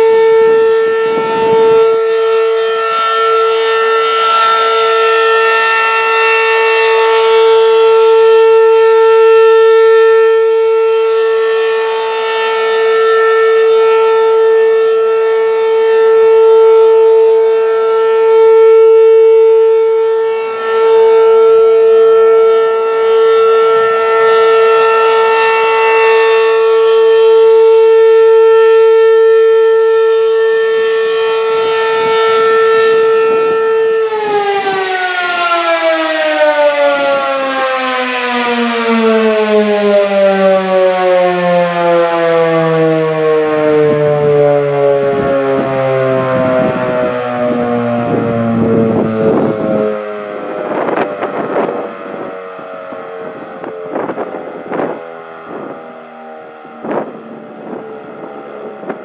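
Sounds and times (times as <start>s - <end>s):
warning siren steady pitch: 0.0s - 59.0s.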